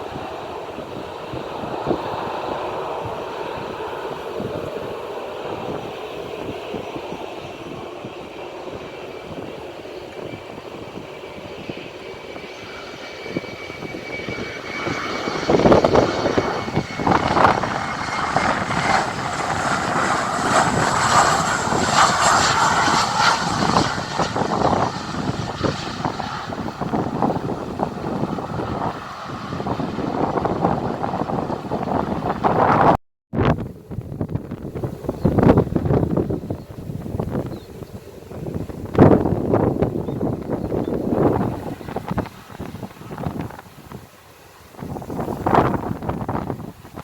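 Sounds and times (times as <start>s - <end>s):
jet airliner passing overhead: 0.0s - 47.0s
wind buffeting microphone: 0.0s - 47.0s.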